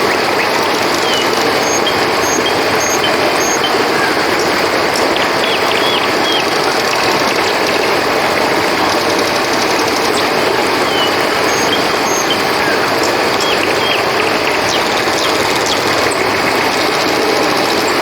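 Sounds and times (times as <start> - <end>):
crickets trilling: 0.0 - 18.0
river water rushing: 0.0 - 18.0.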